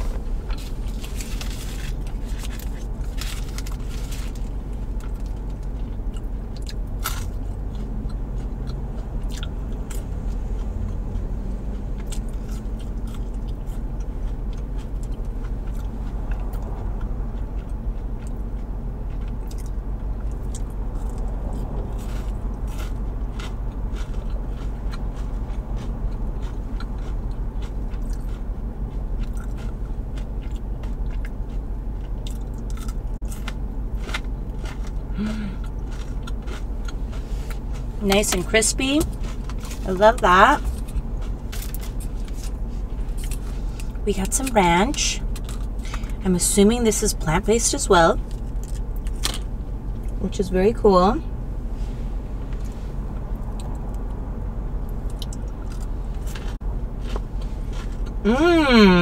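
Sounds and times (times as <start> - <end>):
chewing and crunching food: 0.0 - 59.0
steady low hum: 0.0 - 59.0.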